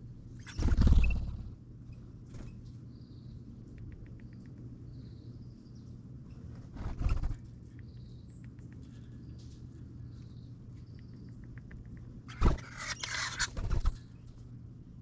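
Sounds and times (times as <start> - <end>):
small birds calling: 0.0 - 14.4
steady low hum: 0.0 - 15.0.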